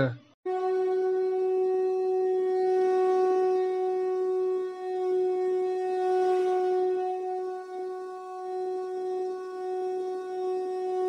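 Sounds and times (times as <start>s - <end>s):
conch shell blown: 0.5s - 11.0s.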